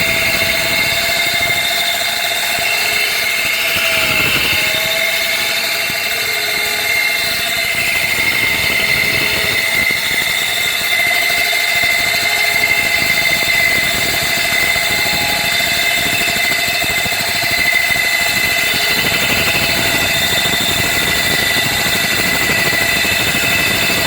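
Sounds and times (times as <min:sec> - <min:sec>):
metal lathe running: 0:00.0 - 0:24.0.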